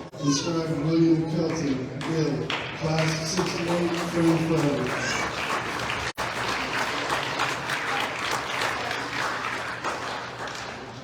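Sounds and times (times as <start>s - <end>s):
crowd applauding: 1.5s - 11.0s.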